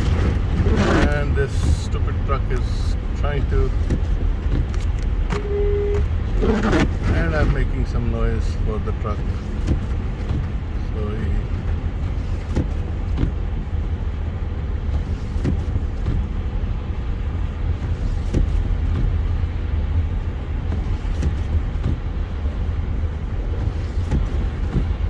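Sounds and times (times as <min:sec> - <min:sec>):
car driving on snowy road: 0:00.0 - 0:25.0.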